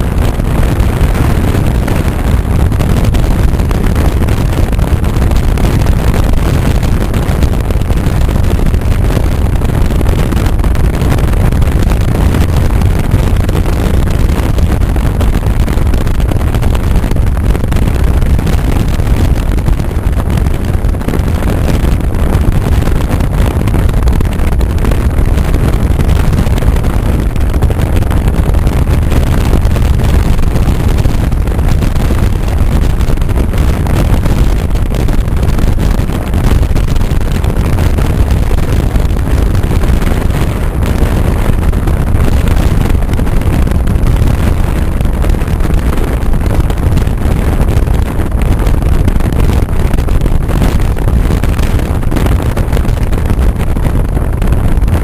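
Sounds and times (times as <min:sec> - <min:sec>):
car engine and road noise: 0:00.0 - 0:54.9
wind buffeting microphone: 0:00.0 - 0:55.0.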